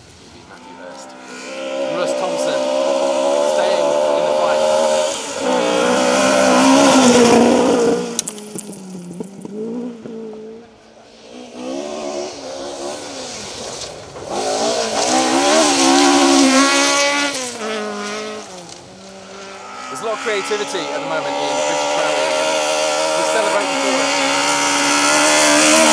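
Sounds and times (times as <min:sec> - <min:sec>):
gravel spraying: 0:00.0 - 0:09.5, 0:11.0 - 0:25.9
car passing close: 0:00.0 - 0:25.9
rally car engines revving: 0:00.0 - 0:25.9.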